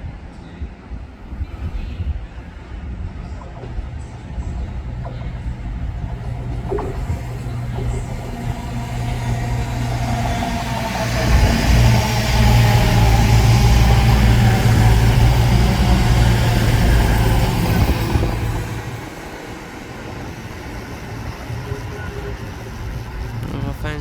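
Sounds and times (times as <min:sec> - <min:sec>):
diesel train engine hum: 0:00.0 - 0:24.0.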